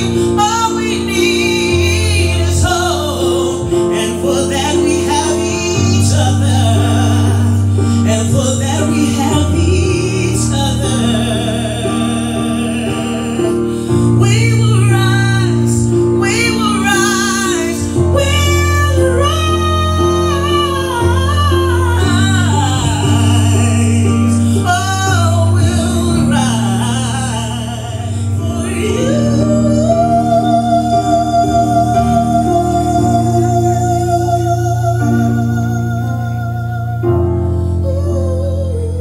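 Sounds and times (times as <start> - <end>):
smooth jazz chords and bass: 0.0 - 39.0
woman singing with vibrato: 0.0 - 39.0.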